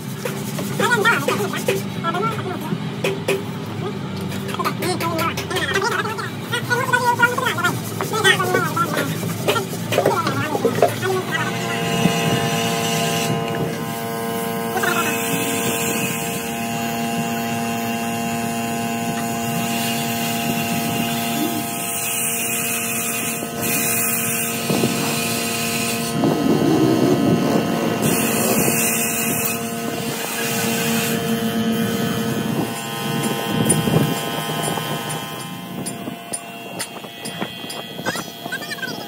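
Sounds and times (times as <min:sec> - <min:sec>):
motor humming: 0:00.0 - 0:39.0.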